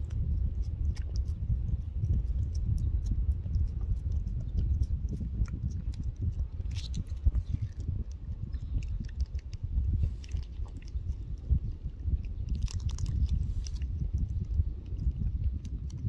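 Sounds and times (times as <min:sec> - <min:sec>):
cat licking wet clicks: 0:00.0 - 0:16.0
low rumble: 0:00.0 - 0:16.0.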